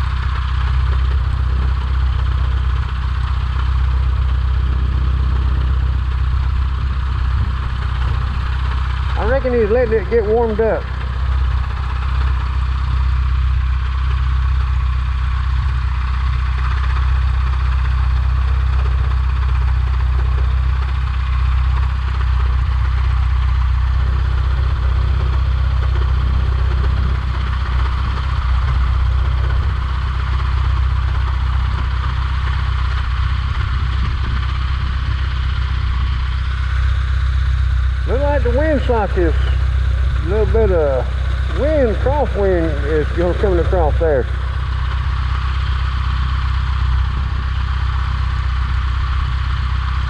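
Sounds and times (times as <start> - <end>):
airplane piston engine idling: 0.0 - 50.0.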